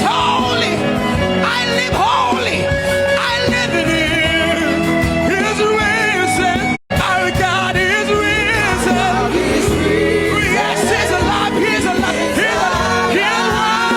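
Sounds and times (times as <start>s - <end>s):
choir singing gospel song: 0.0s - 13.9s
instrumental backing: 0.0s - 13.9s.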